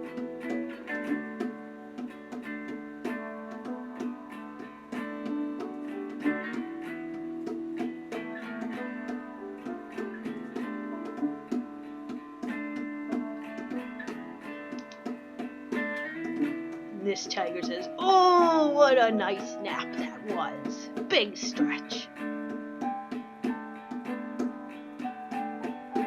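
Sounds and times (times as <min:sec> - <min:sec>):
plucked acoustic guitar tune: 0:00.0 - 0:26.0.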